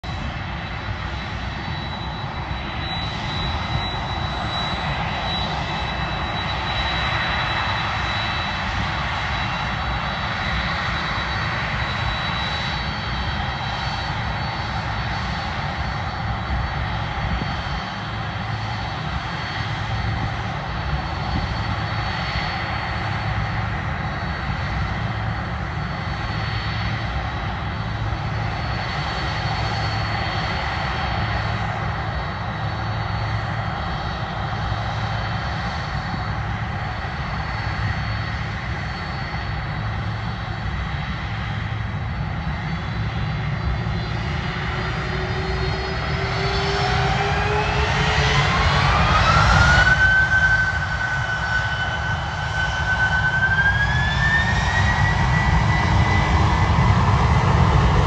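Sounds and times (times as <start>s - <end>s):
high engine whine: 0.0s - 58.0s
jet engines running: 0.0s - 58.0s.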